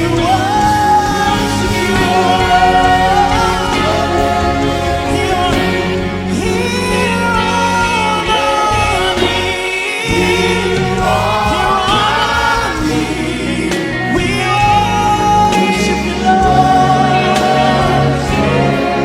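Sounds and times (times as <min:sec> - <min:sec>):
sustained low instrumental notes: 0:00.0 - 0:19.0
voices singing together: 0:00.0 - 0:19.0.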